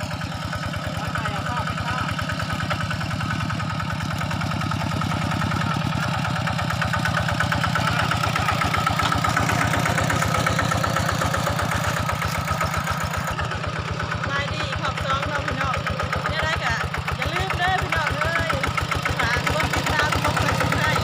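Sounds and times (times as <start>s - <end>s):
engine chugging steadily: 0.0s - 21.0s.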